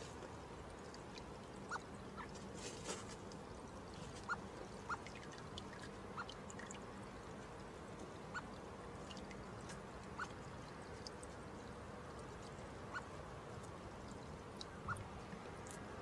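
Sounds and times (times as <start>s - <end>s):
fountain water trickling into basin: 0.0s - 16.0s.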